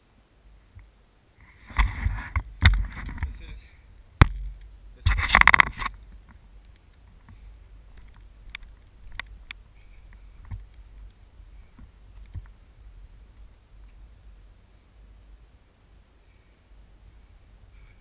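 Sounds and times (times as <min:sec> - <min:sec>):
wind rumble on microphone: 0:00.7 - 0:18.0.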